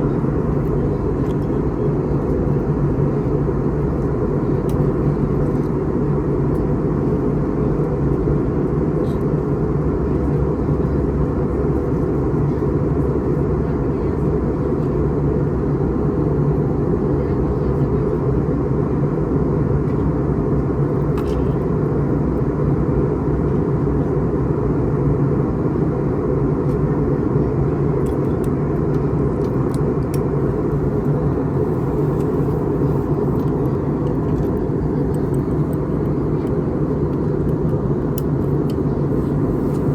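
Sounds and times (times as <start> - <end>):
aircraft cabin engine rush: 0.0 - 39.9
steady low hum: 0.0 - 39.9.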